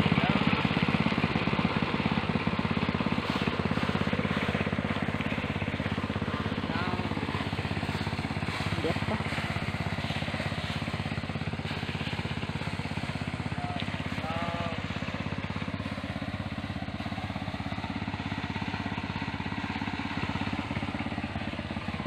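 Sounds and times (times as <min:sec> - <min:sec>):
small engine puttering: 0:00.0 - 0:22.0.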